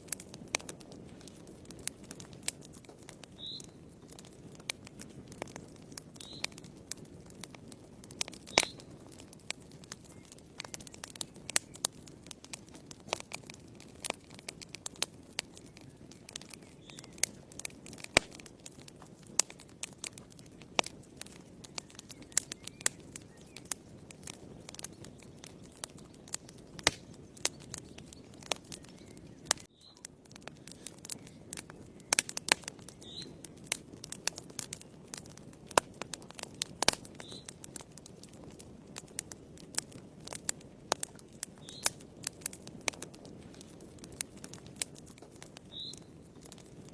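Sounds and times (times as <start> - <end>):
rustle of flames: 0.0 - 46.9
wood fire crackling: 0.0 - 46.9.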